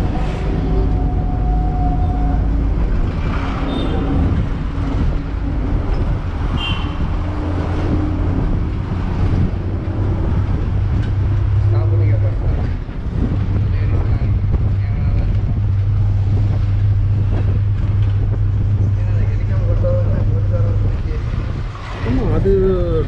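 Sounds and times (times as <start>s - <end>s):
bus engine drone: 0.0s - 23.0s
road noise: 0.0s - 23.0s.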